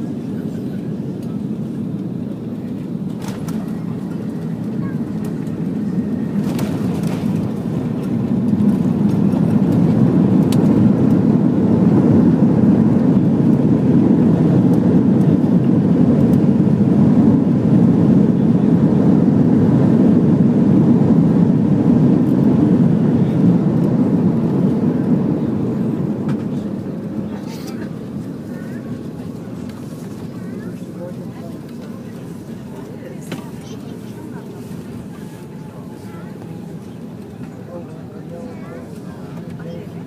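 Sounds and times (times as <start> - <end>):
aircraft engines and wheels roaring: 0.0 - 40.0.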